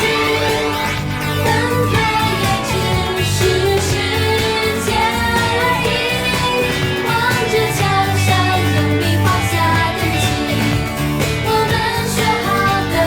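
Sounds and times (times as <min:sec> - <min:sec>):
pop song over sound system: 0:00.0 - 0:13.0.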